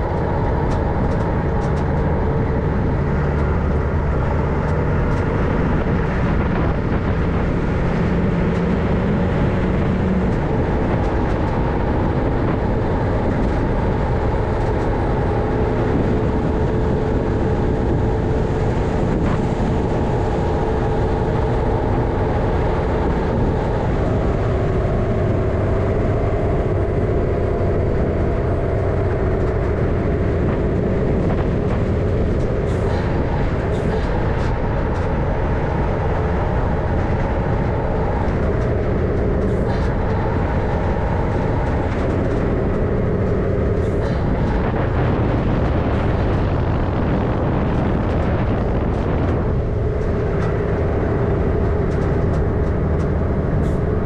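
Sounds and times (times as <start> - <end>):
diesel truck engine running: 0.0 - 54.0
drivetrain and road rumble: 0.0 - 54.0.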